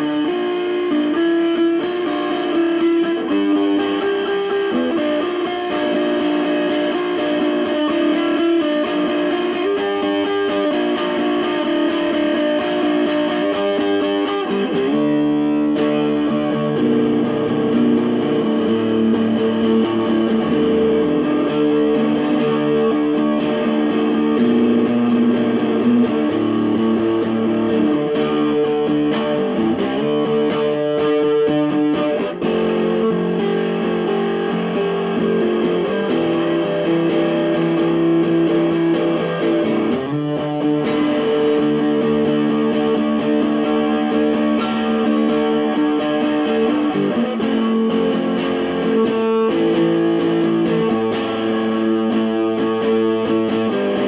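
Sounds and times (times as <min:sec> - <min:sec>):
fuzz electric guitar chords: 0:00.0 - 0:54.0.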